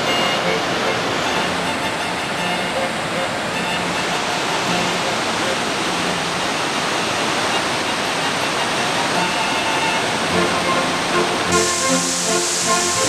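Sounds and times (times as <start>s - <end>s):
faint music: 0.0s - 13.0s.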